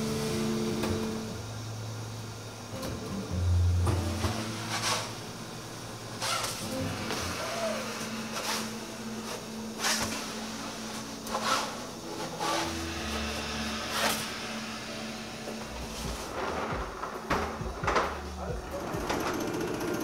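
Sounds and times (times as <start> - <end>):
bakery equipment hum: 0.0 - 20.0.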